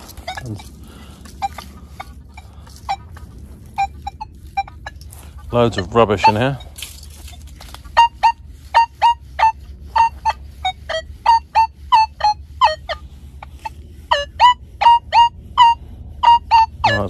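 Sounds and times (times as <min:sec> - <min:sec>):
metal detector beeps: 0:00.0 - 0:17.0.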